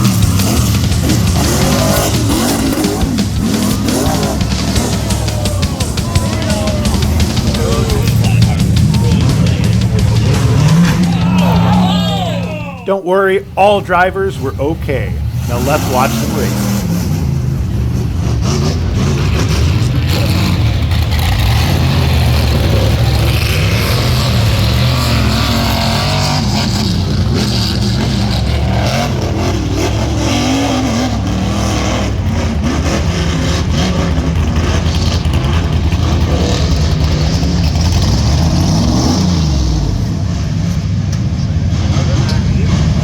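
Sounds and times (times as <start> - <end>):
buggy engines revving hard: 0.0 - 43.0.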